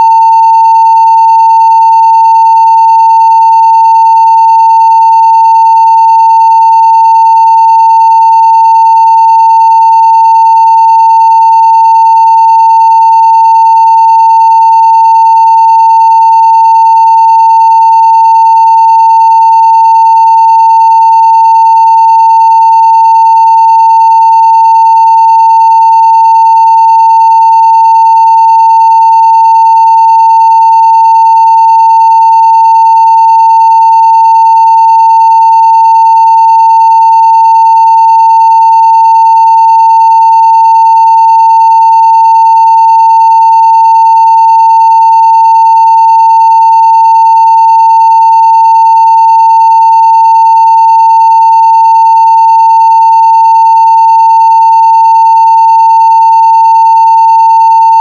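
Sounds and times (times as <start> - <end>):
sine wave test tone: 0.0 - 58.0.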